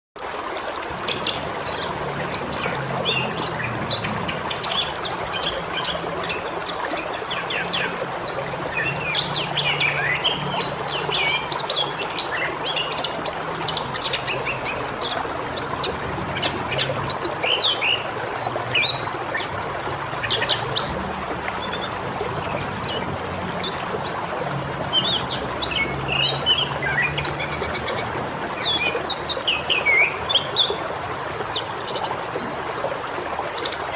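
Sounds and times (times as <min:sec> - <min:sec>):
steady outdoor hiss: 0:00.2 - 0:33.9.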